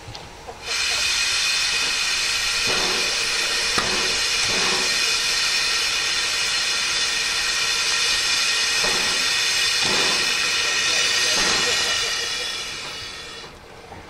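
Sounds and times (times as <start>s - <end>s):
steam locomotive hissing: 0.3s - 13.8s.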